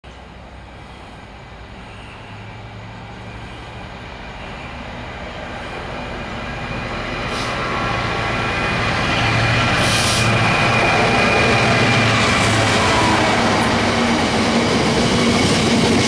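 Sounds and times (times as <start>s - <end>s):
diesel locomotive engine hum: 0.0s - 16.0s.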